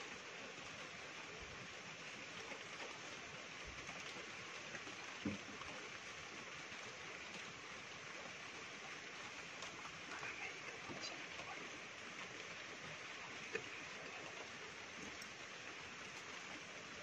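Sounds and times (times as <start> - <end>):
outdoor night ambience hiss: 0.0 - 17.0.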